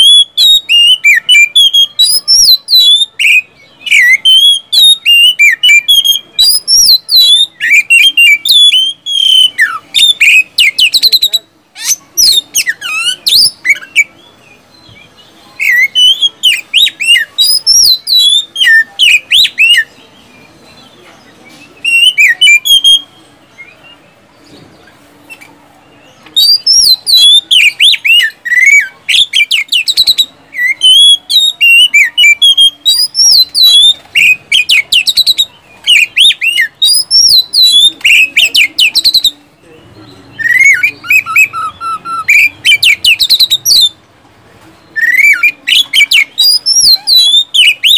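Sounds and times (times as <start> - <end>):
magpie-robin singing: 0.0 - 47.9.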